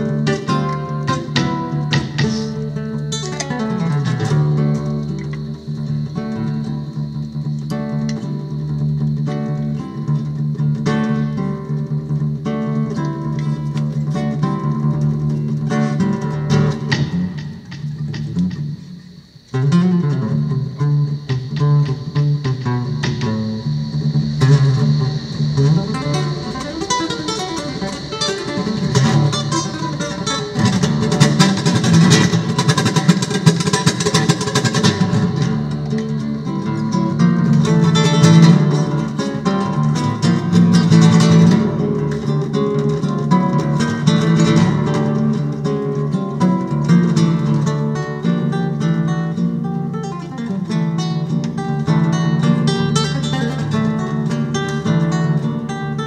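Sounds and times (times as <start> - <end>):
solo guitar music: 0.0 - 56.0.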